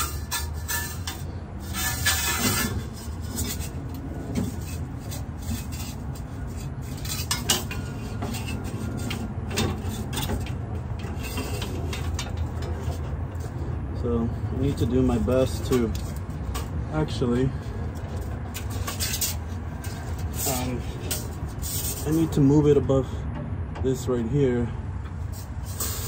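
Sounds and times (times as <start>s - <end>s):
metal clinking and scraping: 0.0s - 13.8s, 14.6s - 22.5s, 25.2s - 26.0s.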